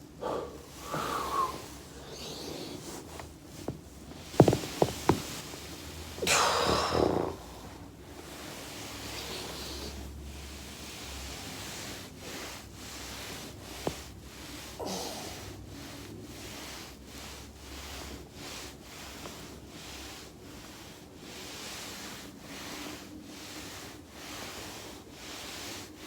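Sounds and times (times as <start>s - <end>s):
body rubbing on foam roller: 0.6s - 26.0s.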